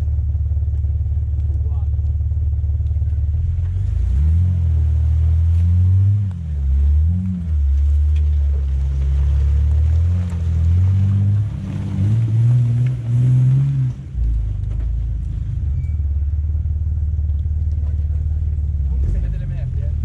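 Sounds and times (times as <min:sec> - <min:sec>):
off-road vehicle engine: 0:00.0 - 0:20.0.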